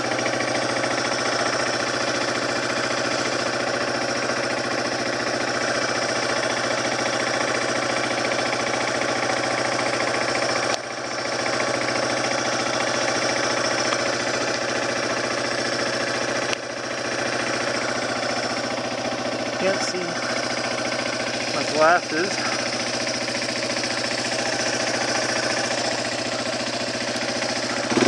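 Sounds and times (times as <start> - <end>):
motorcycle engine running at low revs: 0.0 - 28.0.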